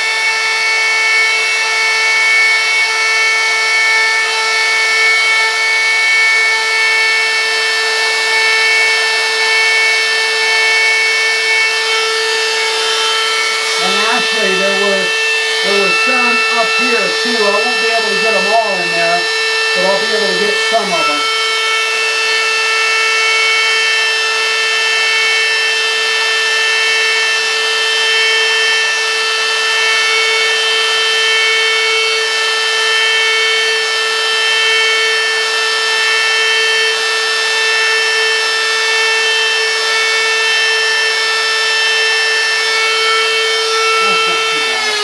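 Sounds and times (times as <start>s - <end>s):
router motor whining: 0.0s - 45.0s.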